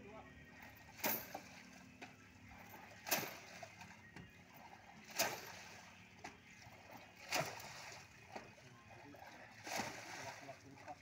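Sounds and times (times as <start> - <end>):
water splashing and sloshing: 0.1 - 11.0.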